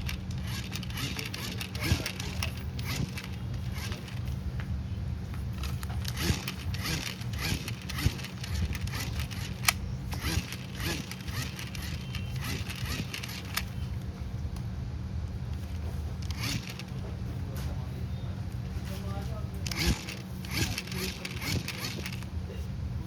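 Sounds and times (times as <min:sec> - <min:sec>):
hand fan rattling whirs: 0:00.0 - 0:14.5, 0:15.2 - 0:23.0.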